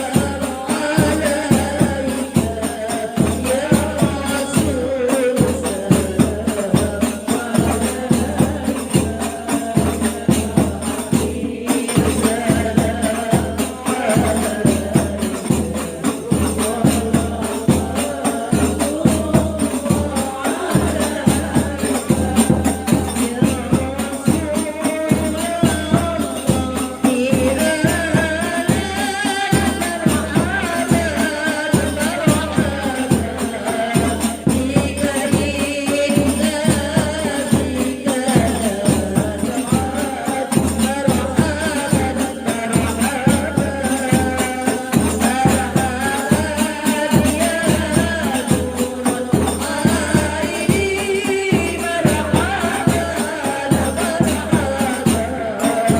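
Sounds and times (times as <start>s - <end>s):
frame drums beating: 0.0s - 55.9s
women singing in chorus: 0.0s - 55.9s.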